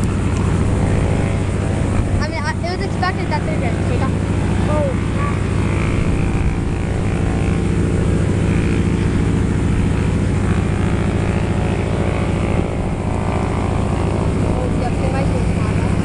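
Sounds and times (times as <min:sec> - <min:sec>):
propeller planes droning overhead: 0:00.0 - 0:16.0.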